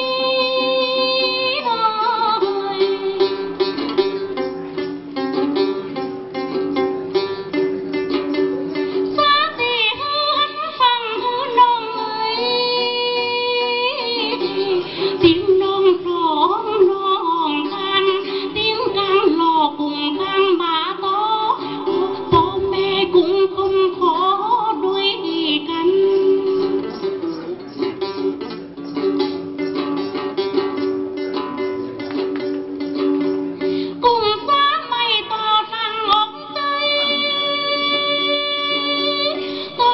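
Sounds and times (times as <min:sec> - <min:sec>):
plucked string instrument: 0:00.0 - 0:39.9.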